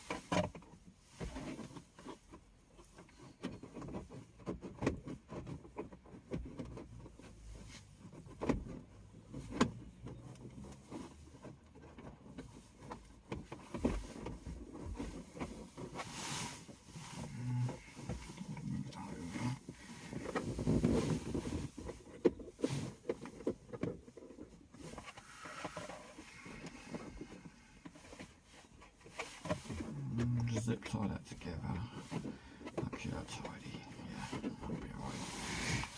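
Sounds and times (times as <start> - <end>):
rustling of wiring: 0.0 - 35.9.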